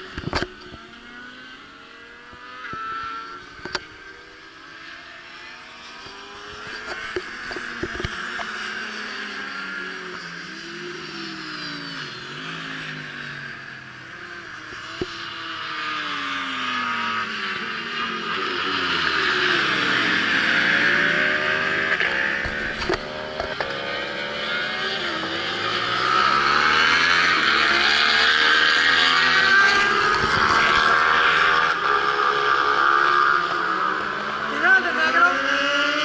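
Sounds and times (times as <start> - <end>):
racing motorcycle engines: 0.0 - 36.0.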